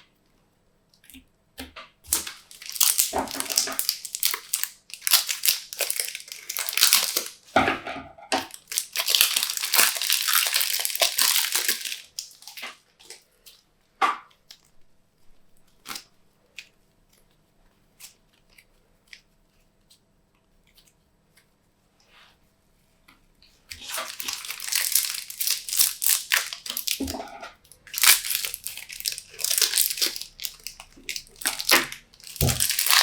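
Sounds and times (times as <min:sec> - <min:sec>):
slime crinkling and crackling: 0:02.0 - 0:07.6, 0:08.4 - 0:21.7, 0:23.5 - 0:33.0.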